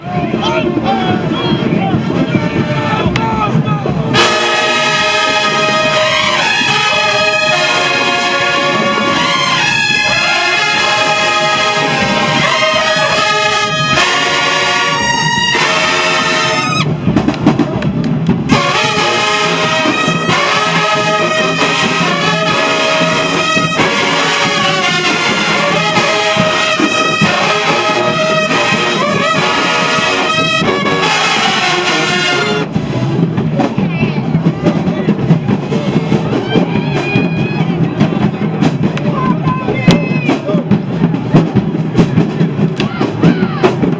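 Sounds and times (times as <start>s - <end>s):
marching band brass playing: 0.0s - 43.9s.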